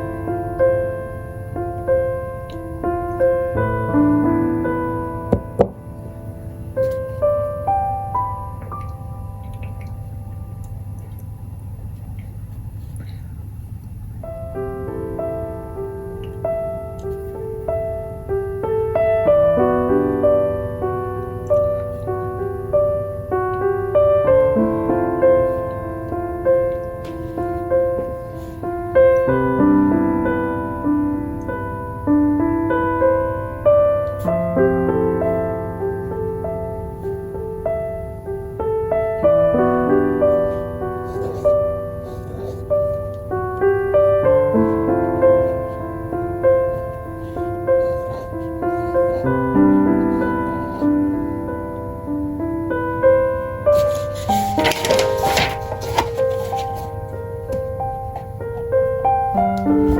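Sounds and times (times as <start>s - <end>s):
gentle piano music: 0.0s - 59.9s.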